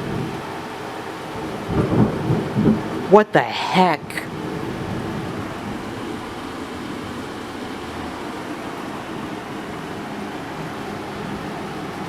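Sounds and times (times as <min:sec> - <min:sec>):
air conditioner fan running: 0:00.0 - 0:12.0
heavy rain pouring: 0:00.0 - 0:12.0.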